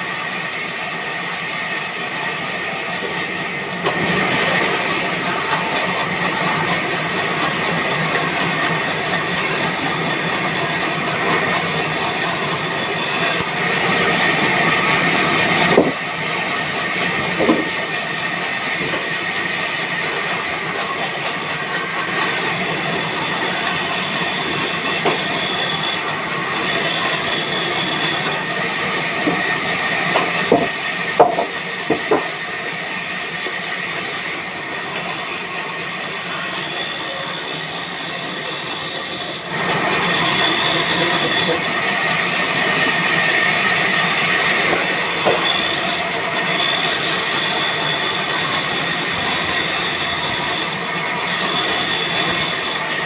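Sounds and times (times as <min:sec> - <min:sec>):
sawmill machinery hiss: 0:00.0 - 0:53.0.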